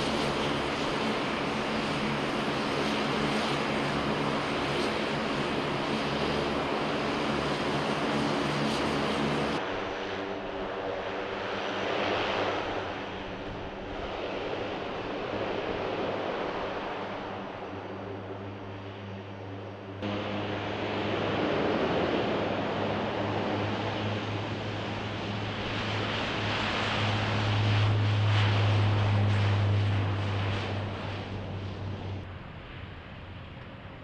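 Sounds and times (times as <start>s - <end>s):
turboprop engines droning: 0.0s - 34.0s.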